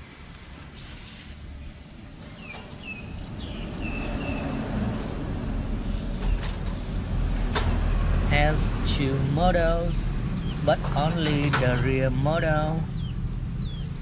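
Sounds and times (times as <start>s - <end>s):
low rumbling noise: 1.4s - 14.0s.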